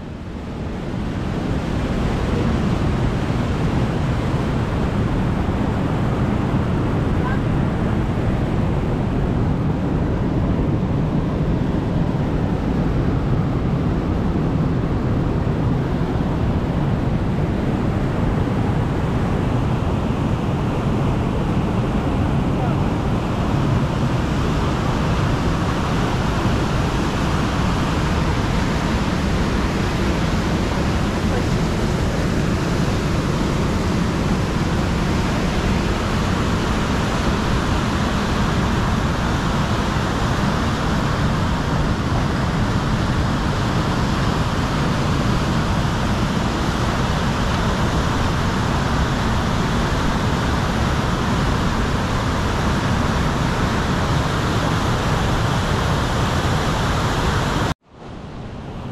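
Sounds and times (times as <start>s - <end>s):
river rushing over rapids: 0.0s - 58.9s.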